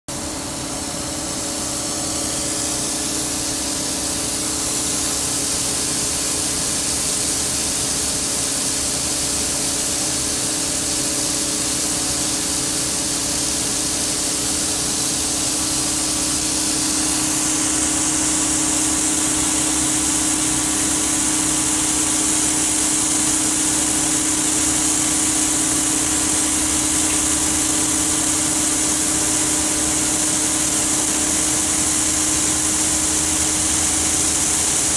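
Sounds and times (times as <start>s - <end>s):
machine hum: 0.1s - 34.9s.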